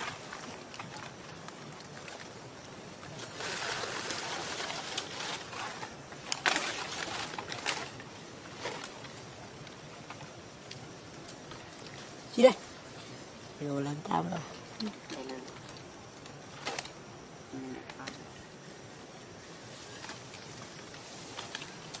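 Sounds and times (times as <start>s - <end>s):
rustling hiss: 0.0s - 22.0s.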